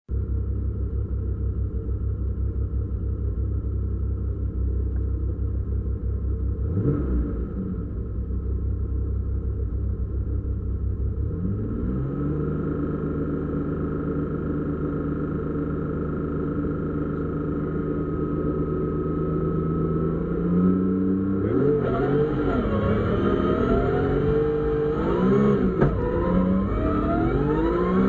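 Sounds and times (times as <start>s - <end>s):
car engine idling and revving: 0.1s - 28.0s.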